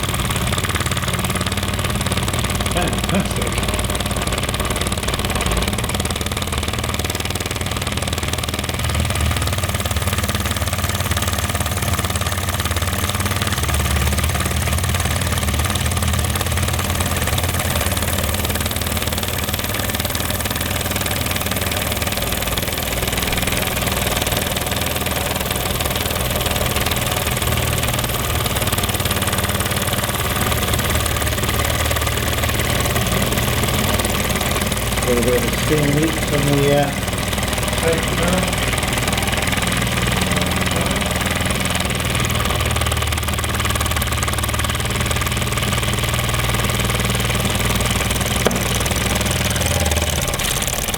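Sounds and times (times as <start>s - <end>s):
toy steam engine beating: 0.0s - 50.9s.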